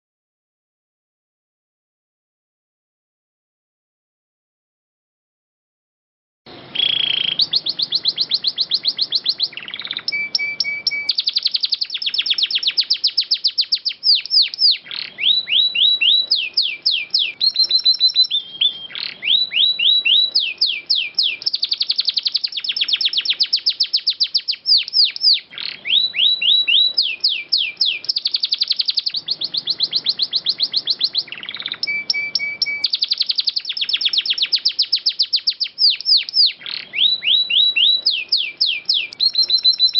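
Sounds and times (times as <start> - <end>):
canary singing trills: 6.5 - 39.9.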